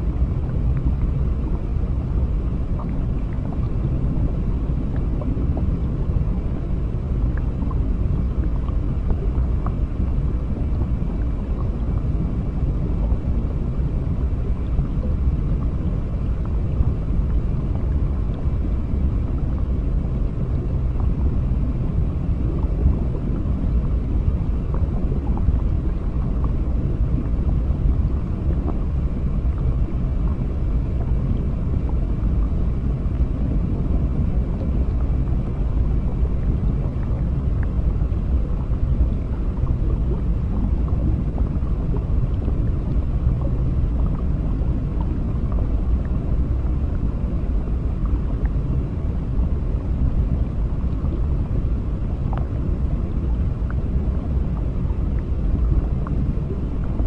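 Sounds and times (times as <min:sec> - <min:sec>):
muffled underwater rumble: 0:00.0 - 0:57.0.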